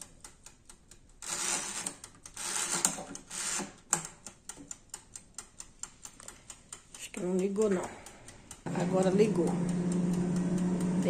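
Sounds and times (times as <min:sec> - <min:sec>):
mechanical timer ticking: 0:00.0 - 0:11.0
timer dial scratching: 0:00.0 - 0:11.0.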